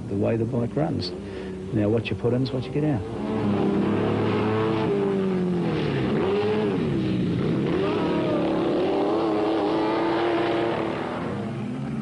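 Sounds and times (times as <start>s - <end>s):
sidecar motorcycle engine running: 0.0s - 12.0s.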